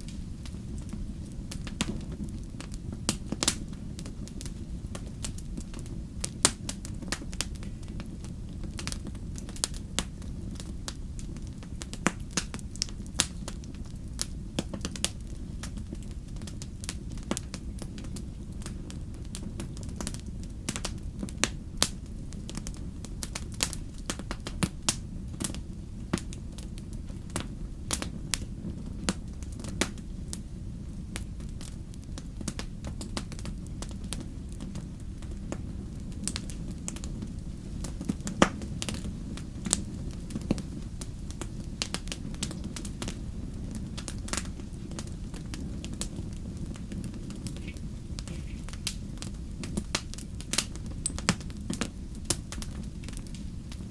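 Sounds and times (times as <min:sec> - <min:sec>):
campfire pops and snaps: 0:00.0 - 0:53.9
low rumble of burning fire: 0:00.0 - 0:53.9.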